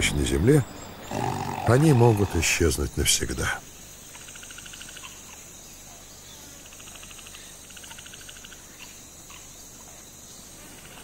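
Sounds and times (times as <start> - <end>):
insects chirring: 0.0 - 11.0
rapid pulsing insect trills: 0.0 - 11.0.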